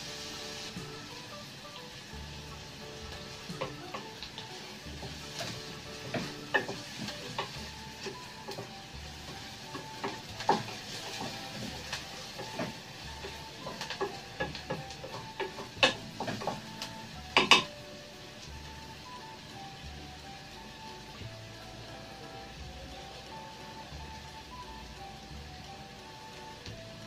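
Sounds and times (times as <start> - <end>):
onions sizzling in a pan: 0.0 - 27.0.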